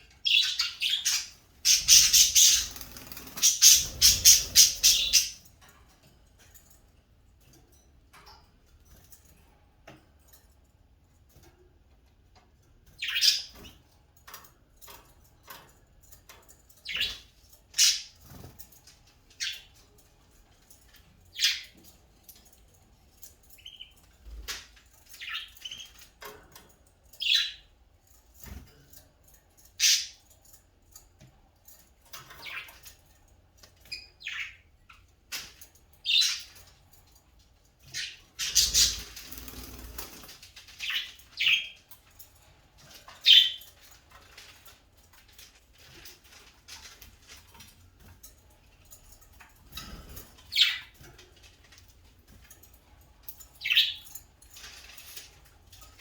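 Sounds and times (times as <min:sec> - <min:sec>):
small birds chirping: 0:00.0 - 0:05.7, 0:12.8 - 0:28.6, 0:29.2 - 0:56.0.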